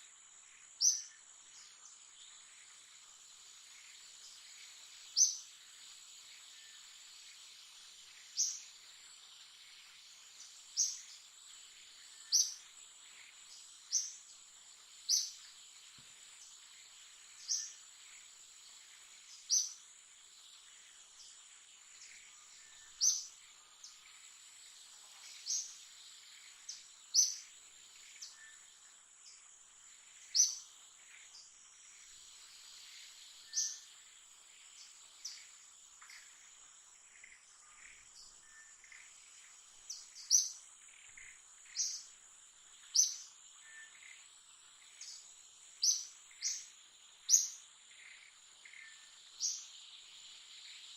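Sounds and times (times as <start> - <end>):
insect drone: 0.0 - 50.9
sharp high insect chirps: 0.1 - 50.9.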